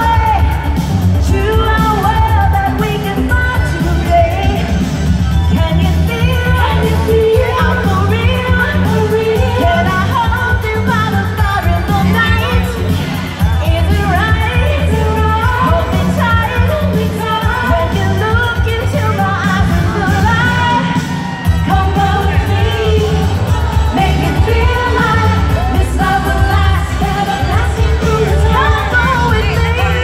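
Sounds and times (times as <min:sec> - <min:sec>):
dance-pop song with female vocals: 0:00.0 - 0:30.0.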